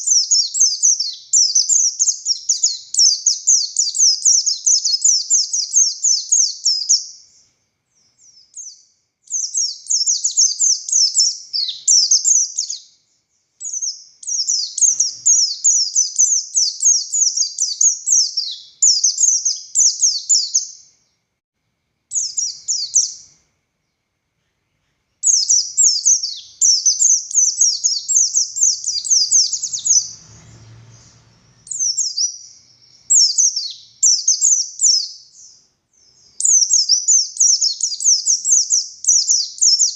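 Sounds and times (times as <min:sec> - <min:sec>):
bird twittering song: 0:00.0 - 0:21.2, 0:22.1 - 0:39.9.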